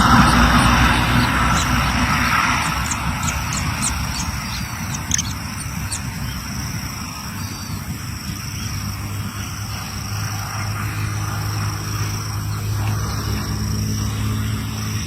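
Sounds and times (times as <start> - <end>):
passing vehicle rumble: 0.0 - 15.0.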